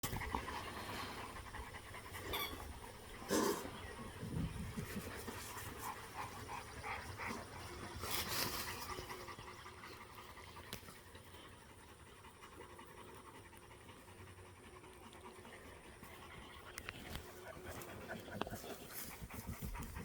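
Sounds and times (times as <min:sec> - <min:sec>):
puppies panting: 0:00.0 - 0:20.0.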